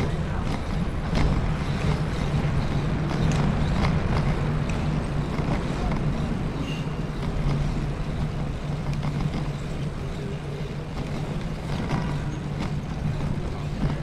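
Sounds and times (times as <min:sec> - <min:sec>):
bicycle tyres rumbling on paving: 0:00.0 - 0:14.0.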